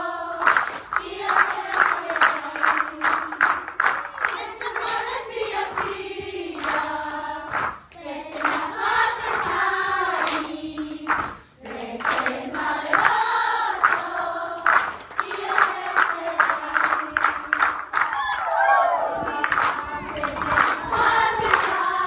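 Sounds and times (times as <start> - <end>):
children singing together: 0.0 - 17.7, 18.9 - 22.0
hand clapping: 0.4 - 6.0, 6.6 - 9.6, 10.2 - 18.3, 19.3 - 21.9.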